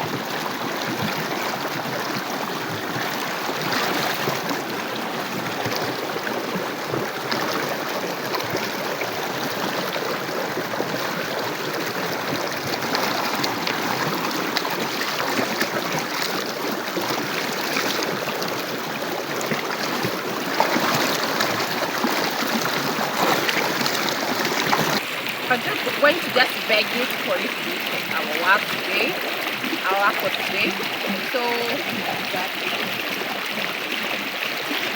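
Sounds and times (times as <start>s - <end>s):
water running and splashing: 0.0s - 34.9s.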